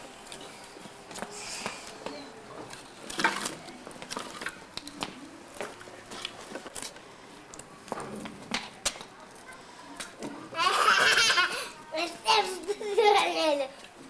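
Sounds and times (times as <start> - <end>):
faint indistinct voices: 0.0 - 14.0.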